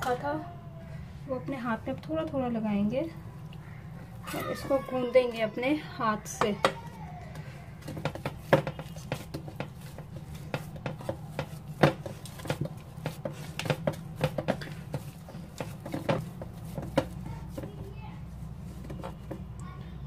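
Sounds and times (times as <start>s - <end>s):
hands kneading dough in bowl: 1.4s - 19.6s.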